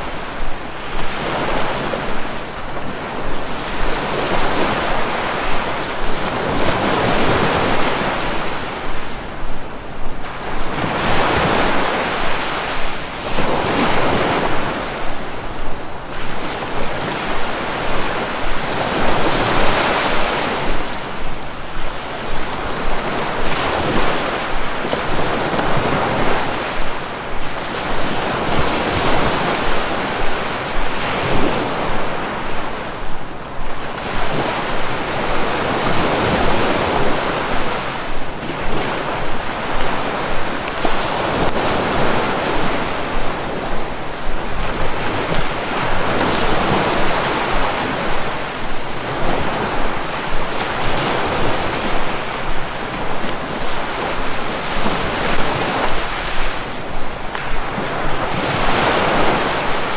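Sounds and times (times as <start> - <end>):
sea waves washing onto shore: 0.0 - 59.9
wind noise: 0.0 - 59.9.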